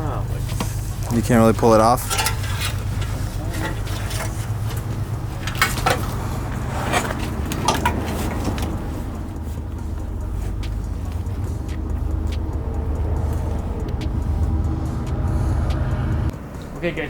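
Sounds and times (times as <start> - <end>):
steady low rumble: 0.0 - 16.4.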